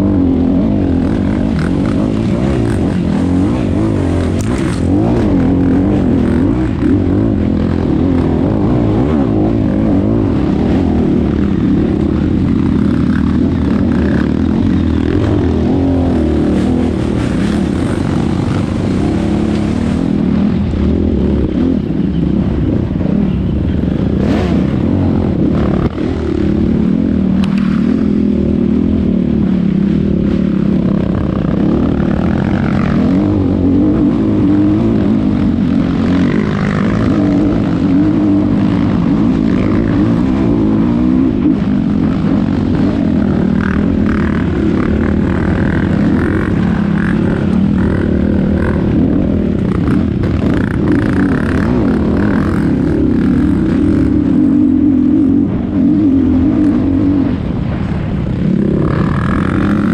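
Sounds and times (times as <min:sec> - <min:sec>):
two-stroke engine running: 0:00.0 - 0:22.7, 0:23.3 - 0:55.7.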